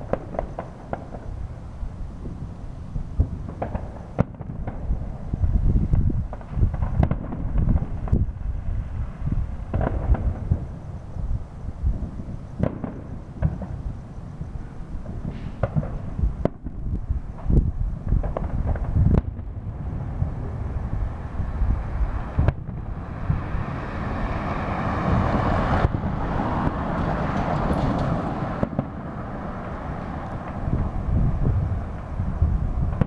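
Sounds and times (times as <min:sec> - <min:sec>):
dense rushing noise: 0:00.0 - 0:33.0
fireworks bursting: 0:00.0 - 0:33.0
wind rumble on microphone: 0:00.0 - 0:33.0.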